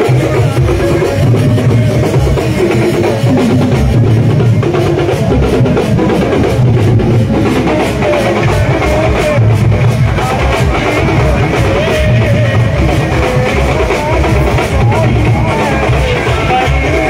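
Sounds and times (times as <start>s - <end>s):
large drums beating: 0.0s - 17.0s.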